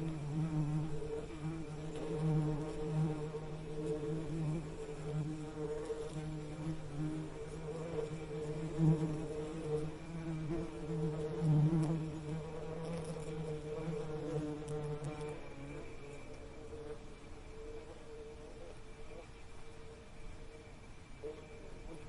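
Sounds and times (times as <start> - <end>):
bees buzzing: 0.0 - 19.2.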